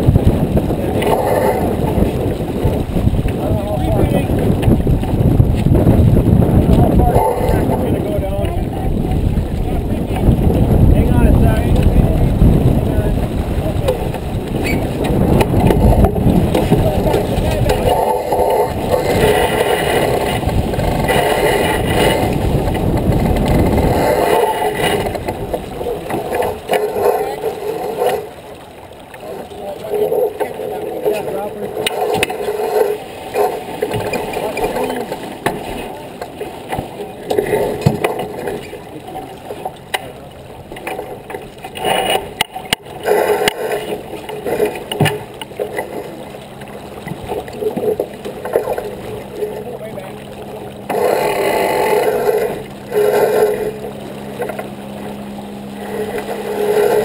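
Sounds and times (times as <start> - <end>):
boat knocks and clicks: 0.0 - 57.0
water rushing past hull: 0.0 - 57.0
wind buffeting microphone: 0.0 - 57.0.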